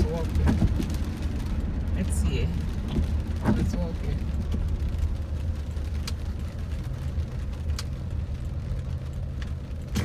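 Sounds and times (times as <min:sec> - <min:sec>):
car engine and road hum: 0:00.0 - 0:10.0.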